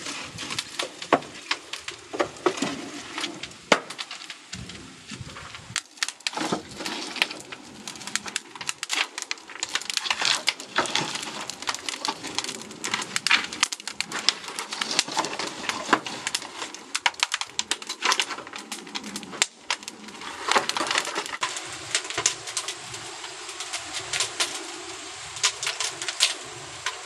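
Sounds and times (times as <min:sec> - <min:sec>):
firewood knocking: 0:00.0 - 0:22.8
wood fire crackling and popping: 0:00.0 - 0:27.0.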